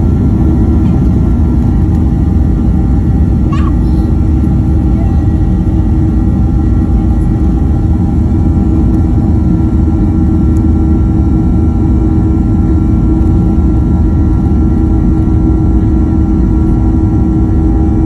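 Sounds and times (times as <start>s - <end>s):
faint hum: 0.0s - 18.0s
jet engines rumbling in cabin: 0.0s - 18.0s.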